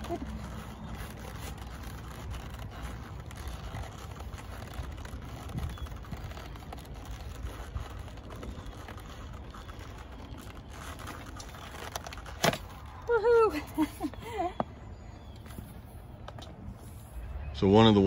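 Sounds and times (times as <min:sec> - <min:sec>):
saddle leather rubbing: 0:00.0 - 0:17.2.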